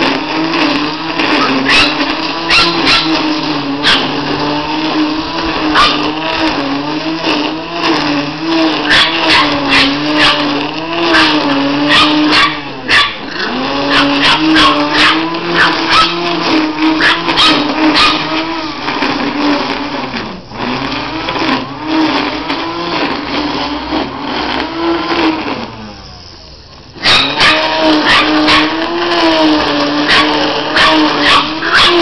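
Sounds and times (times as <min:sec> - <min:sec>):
grass trimmer motor whining: 0:00.0 - 0:32.0.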